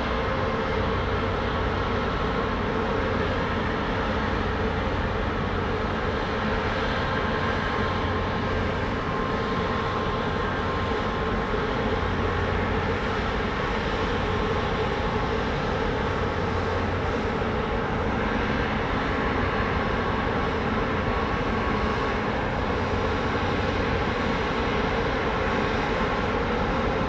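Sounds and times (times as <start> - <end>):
ship engines droning: 0.0 - 27.0.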